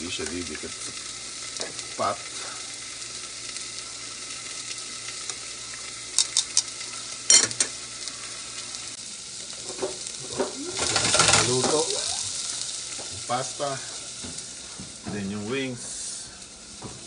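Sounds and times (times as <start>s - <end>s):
pot of water boiling: 0.0s - 17.0s.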